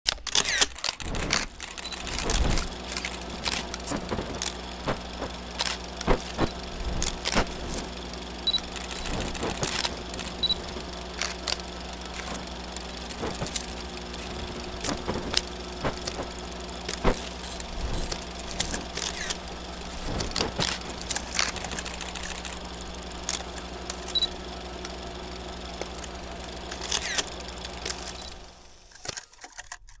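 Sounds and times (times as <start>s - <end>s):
projector hum: 0.8s - 28.9s
film crackles and pops: 1.0s - 30.0s.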